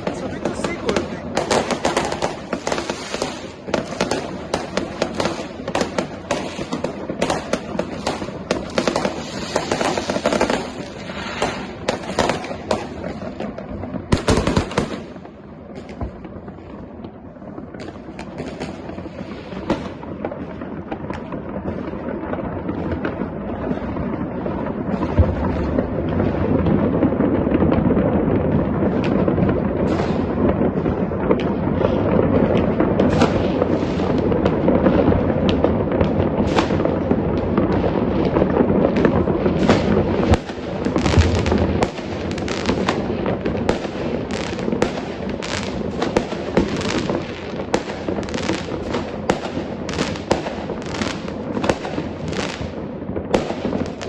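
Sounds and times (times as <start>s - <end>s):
fireworks crackling bangs: 0.0s - 54.0s.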